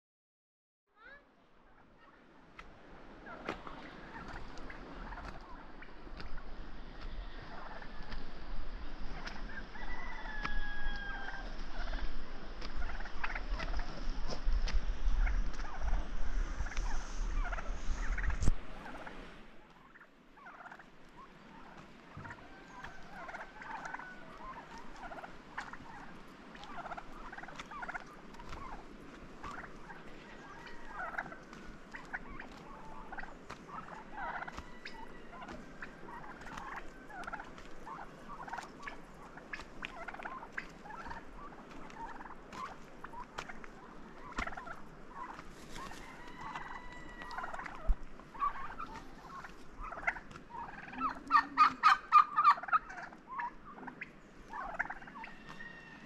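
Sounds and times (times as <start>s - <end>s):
turkeys calling: 1.0s - 56.0s.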